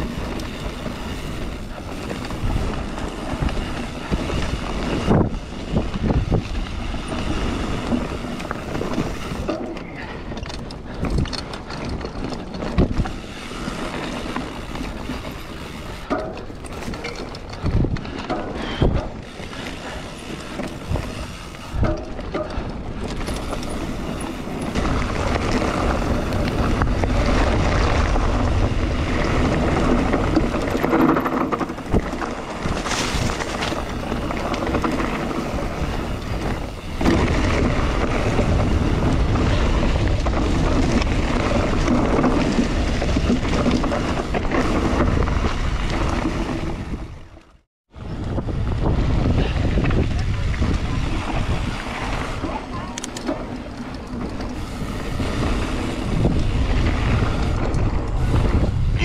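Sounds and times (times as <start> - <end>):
bike knocking and rattling: 0.0 - 59.0
bike tyres rolling on dirt: 0.0 - 59.0
wind rushing over microphone: 0.0 - 59.0.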